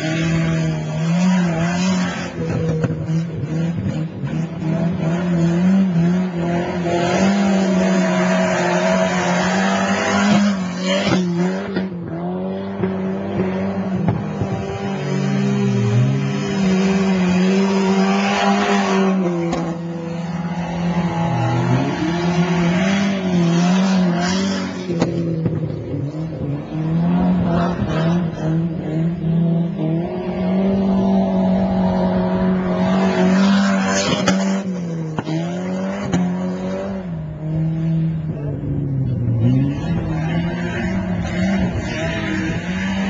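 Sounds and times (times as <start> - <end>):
rally car engines revving: 0.0 - 43.0.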